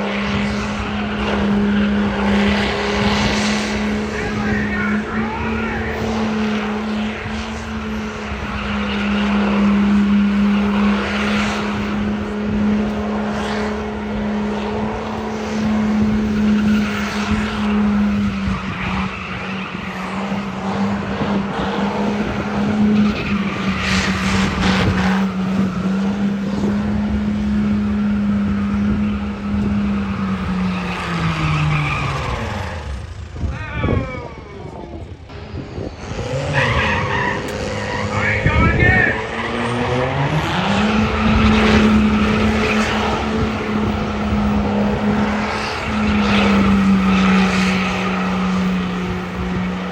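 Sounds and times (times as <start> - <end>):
tires spinning and squealing: 0.0 - 49.9
truck engine at high revs: 0.0 - 49.9.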